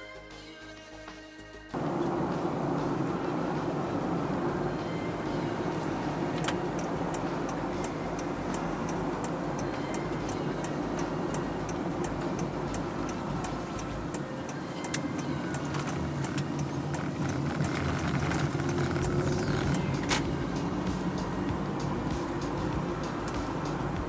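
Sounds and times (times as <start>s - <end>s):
car road noise: 1.7s - 24.0s
light ticking: 1.8s - 24.0s.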